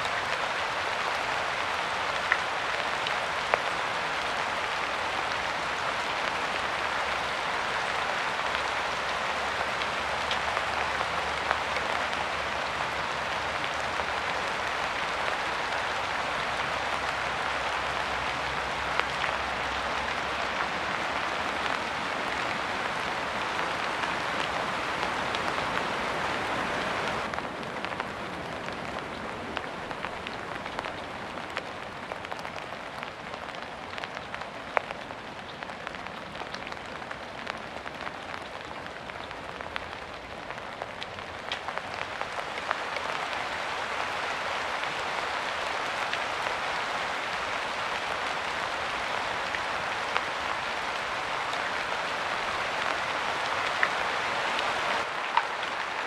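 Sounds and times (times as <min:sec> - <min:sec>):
raindrops ticking: 0:00.0 - 0:27.4, 0:30.1 - 0:56.0
steady rain falling: 0:00.0 - 0:56.0.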